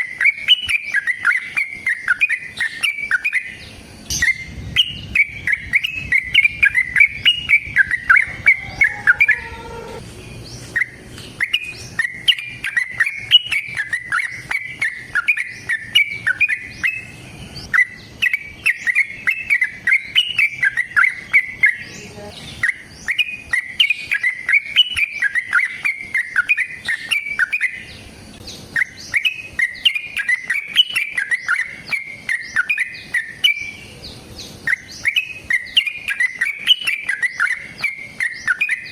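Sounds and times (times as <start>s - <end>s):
bird singing chattering warbles: 0.0s - 38.9s.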